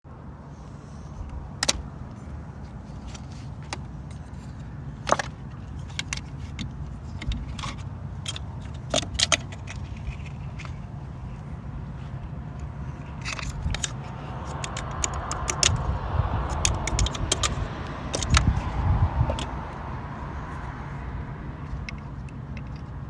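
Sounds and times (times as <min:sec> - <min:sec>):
car droning: 0:00.3 - 0:23.0
sharp clicks and light rattles: 0:01.2 - 0:11.4, 0:12.5 - 0:19.8, 0:21.6 - 0:23.0.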